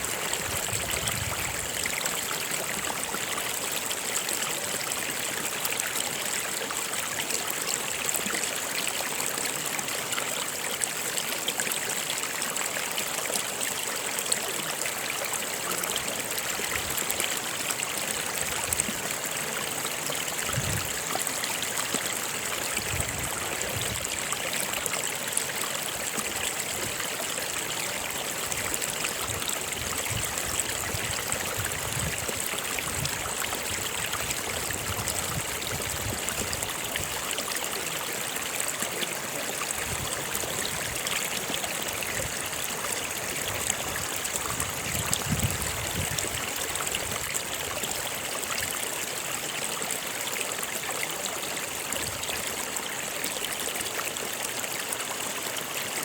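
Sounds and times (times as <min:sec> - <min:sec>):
river flowing and trickling: 0:00.0 - 0:56.0.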